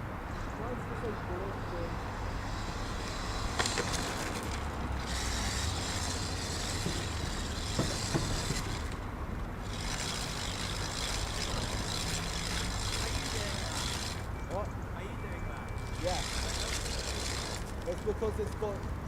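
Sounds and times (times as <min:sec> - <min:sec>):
rc cars motors whirring: 0:01.3 - 0:14.4, 0:15.8 - 0:18.6.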